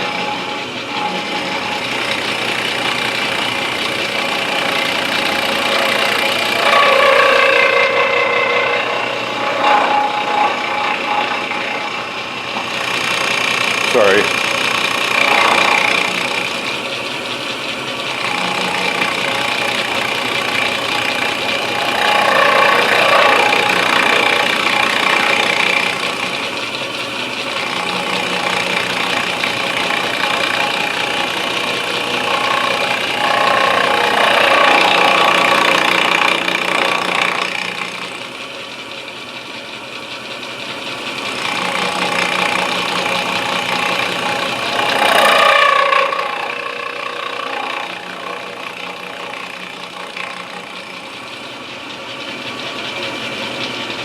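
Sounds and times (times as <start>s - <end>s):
end mill cutting wood: 0.0s - 54.0s
milling machine spindle running: 0.0s - 54.0s.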